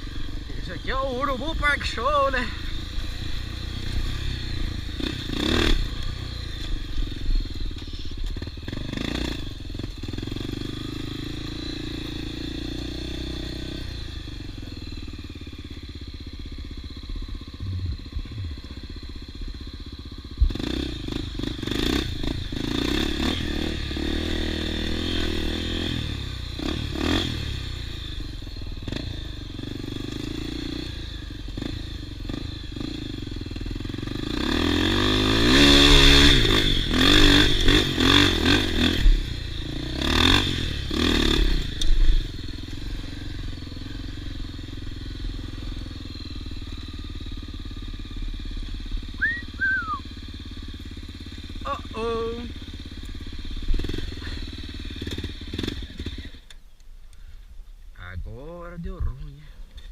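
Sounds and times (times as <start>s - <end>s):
motorcycle engines revving: 0.0s - 56.6s.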